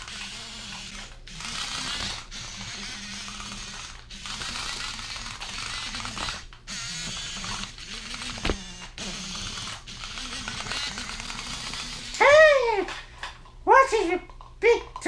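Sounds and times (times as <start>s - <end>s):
small electric motor whirring: 0.0s - 12.4s.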